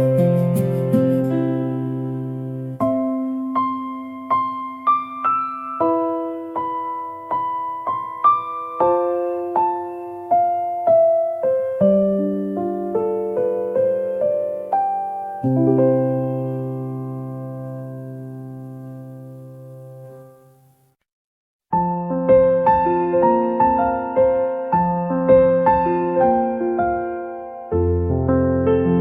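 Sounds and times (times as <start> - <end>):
gentle piano melody: 0.0 - 20.9, 21.7 - 29.0.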